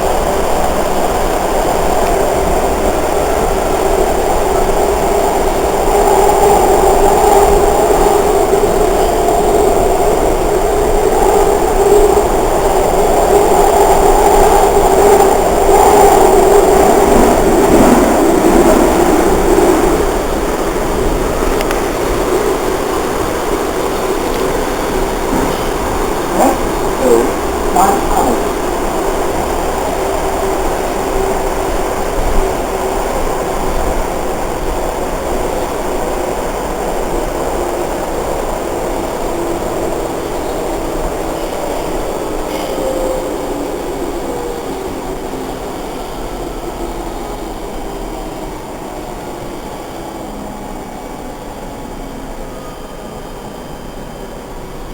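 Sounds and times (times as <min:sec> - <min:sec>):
subway car wheels rumbling on rail: 0:00.0 - 0:54.9.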